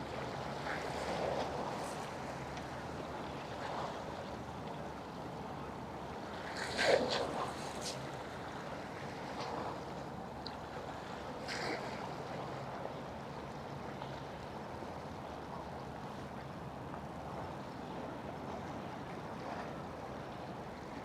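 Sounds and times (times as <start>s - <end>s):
water: 0.0s - 21.0s.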